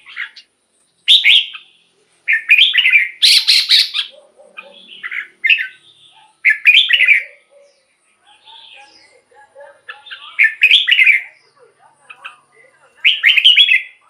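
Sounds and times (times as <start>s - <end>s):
bird singing whistled notes: 0.0s - 4.1s, 4.7s - 9.3s, 9.9s - 11.5s, 13.0s - 14.0s.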